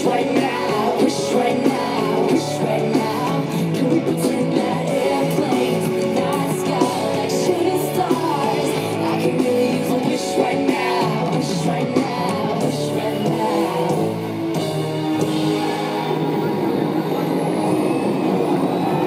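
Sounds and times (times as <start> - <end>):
live concert singing: 0.0 - 19.0.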